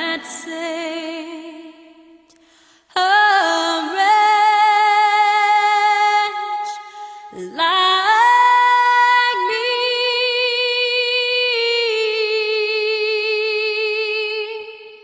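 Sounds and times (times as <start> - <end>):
woman singing with vibrato: 0.0 - 2.3, 2.9 - 15.0.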